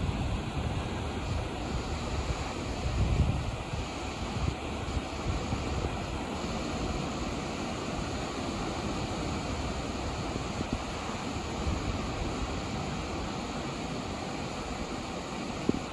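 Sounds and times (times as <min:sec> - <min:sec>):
waves breaking on beach: 0:00.0 - 0:15.9
wind noise on microphone: 0:00.0 - 0:15.9.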